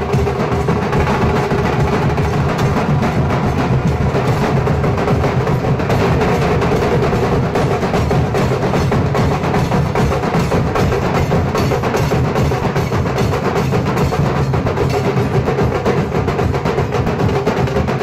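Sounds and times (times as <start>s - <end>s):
large drums beaten with sticks: 0.0s - 18.0s
sharp snare-like drum: 0.0s - 18.0s.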